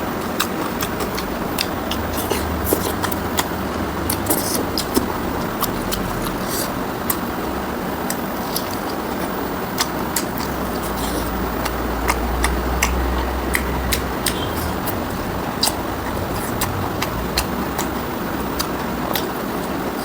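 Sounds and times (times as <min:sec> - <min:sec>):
chewing and mouth smacks: 0:00.2 - 0:07.3, 0:08.0 - 0:20.0.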